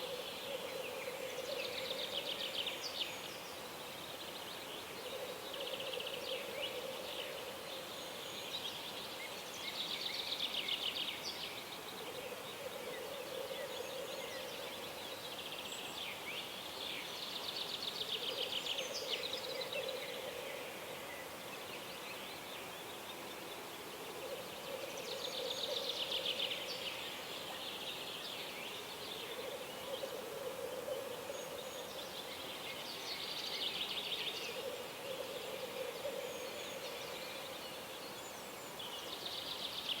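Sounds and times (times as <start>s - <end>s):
soft steady background hiss: 0.0s - 40.0s.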